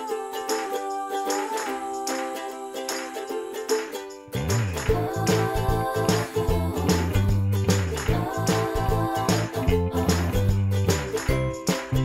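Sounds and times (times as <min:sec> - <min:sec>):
light background music with beat: 0:00.0 - 0:12.0.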